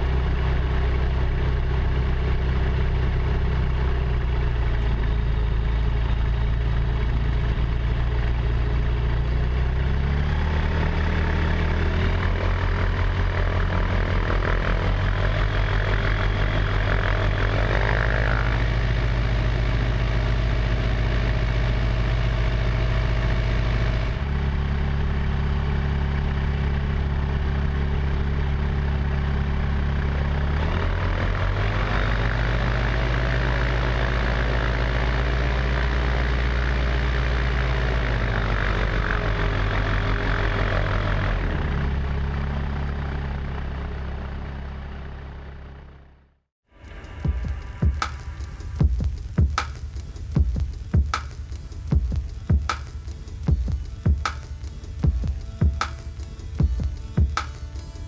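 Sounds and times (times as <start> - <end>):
light aircraft engine drone: 0.0 - 46.0, 46.8 - 58.0.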